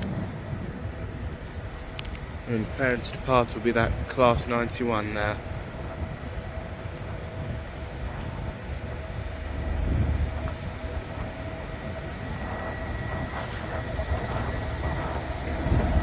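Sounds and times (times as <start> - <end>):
trains rumbling: 0.0 - 16.0.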